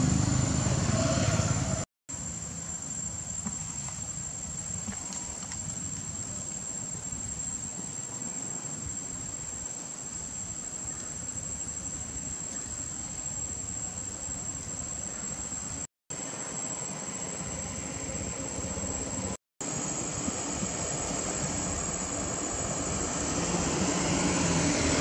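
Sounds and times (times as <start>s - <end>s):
insect chorus drone: 0.0s - 25.0s.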